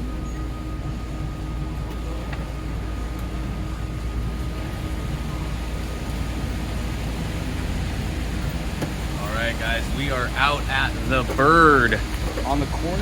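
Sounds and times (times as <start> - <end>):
low rumble with hiss: 0.0 - 13.0.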